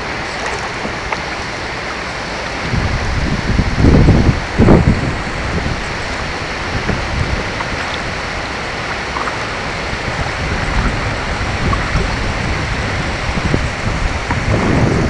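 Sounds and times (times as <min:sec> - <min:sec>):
water rushing around kayak: 0:00.0 - 0:15.0
wind buffeting microphone: 0:00.0 - 0:15.0.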